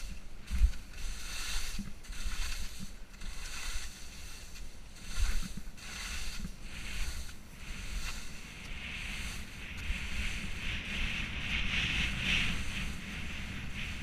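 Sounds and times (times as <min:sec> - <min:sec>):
skis scraping on snow: 0:00.0 - 0:14.0
wind rumbling on microphone: 0:00.0 - 0:14.0.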